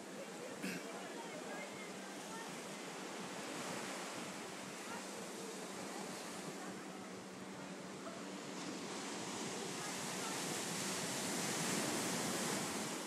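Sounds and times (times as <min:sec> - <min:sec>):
surf breaking on beach: 0:00.0 - 0:13.0
wind: 0:00.0 - 0:13.0.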